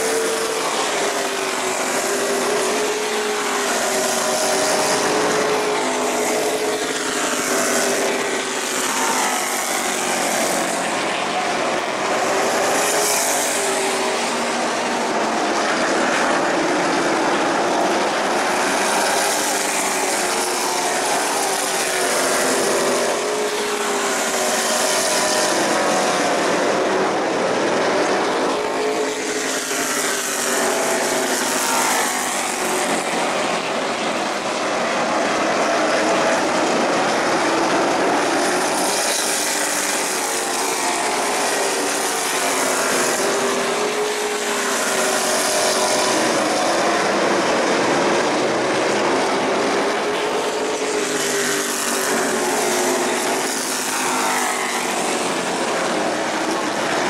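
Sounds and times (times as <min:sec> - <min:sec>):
race car engines running hard: 0:00.0 - 0:57.0.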